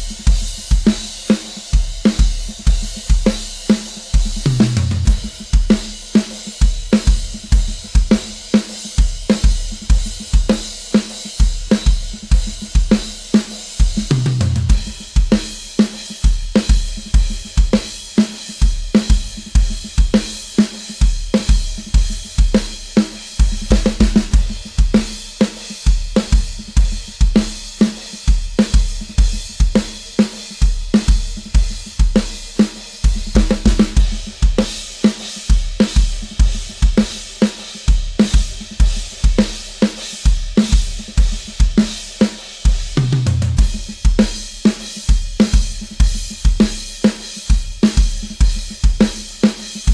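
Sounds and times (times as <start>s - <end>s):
drum kit playing a groove: 0.0s - 49.9s.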